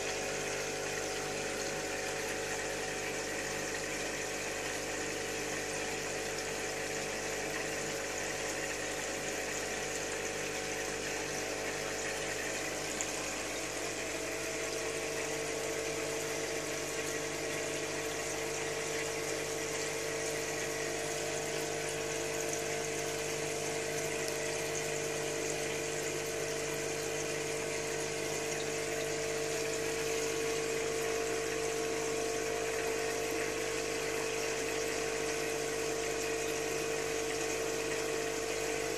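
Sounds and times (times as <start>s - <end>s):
bubbling water: 0.0s - 38.9s
filter pump hum: 0.0s - 38.9s.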